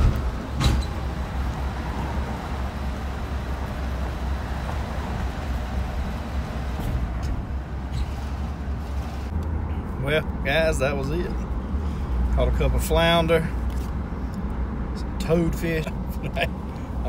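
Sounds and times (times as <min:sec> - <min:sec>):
car engine rumble: 0:00.0 - 0:17.0.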